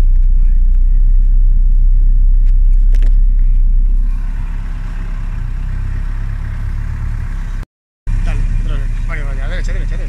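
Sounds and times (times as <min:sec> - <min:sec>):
off-road vehicle engine rumbling: 0:00.0 - 0:10.0.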